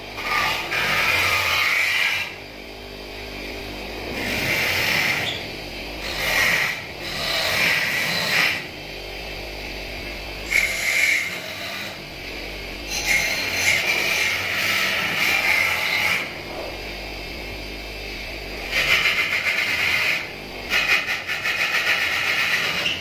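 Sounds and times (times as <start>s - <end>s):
bench motor running: 0.0s - 23.0s.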